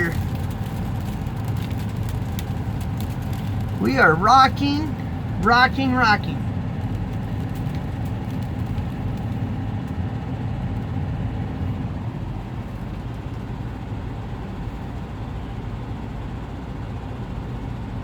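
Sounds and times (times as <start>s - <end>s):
wind buffeting truck cab: 0.0s - 18.0s.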